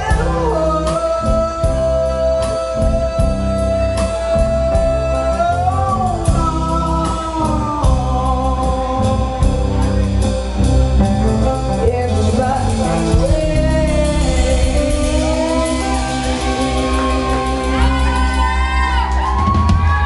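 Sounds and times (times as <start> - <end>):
woman singing: 0.0 - 10.3, 11.2 - 20.0
live rock band playing: 0.0 - 20.0.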